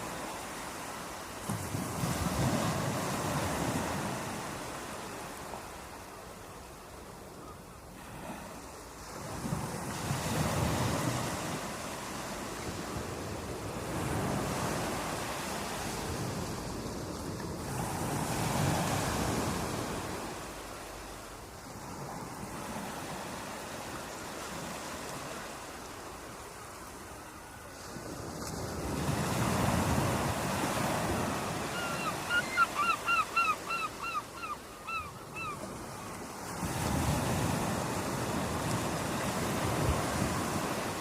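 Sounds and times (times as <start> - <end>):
sea waves breaking on shore: 0.0 - 41.0.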